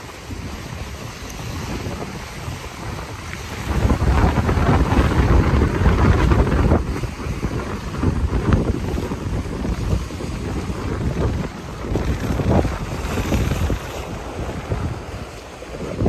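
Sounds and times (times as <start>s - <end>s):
waves splashing against seawall: 0.0s - 16.0s
wind buffeting microphone: 0.0s - 16.0s.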